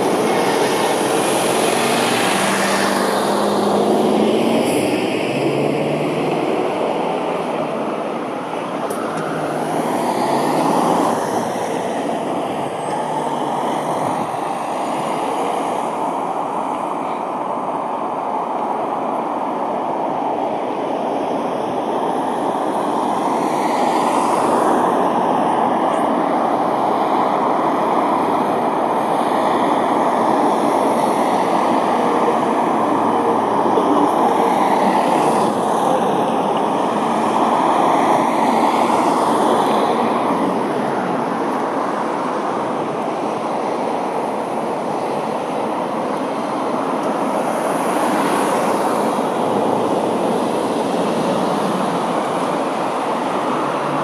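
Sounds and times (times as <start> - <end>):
road traffic noise: 0.0 - 54.0
vehicles passing close: 0.0 - 54.0.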